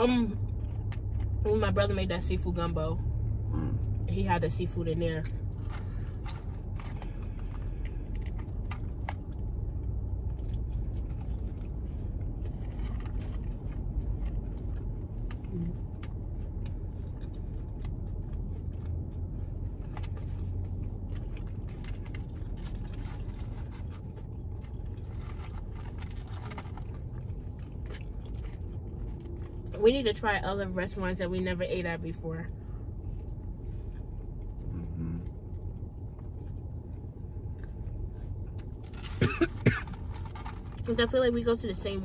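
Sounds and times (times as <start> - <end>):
low rumble inside car cabin: 0.0 - 42.0
food being handled and eaten: 0.1 - 2.4, 3.0 - 29.8, 32.5 - 41.1.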